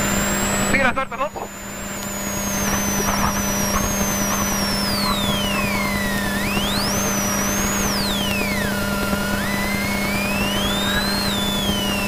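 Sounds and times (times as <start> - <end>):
constant low hum: 0.0 - 12.0
car whine changing pitch: 1.4 - 12.0.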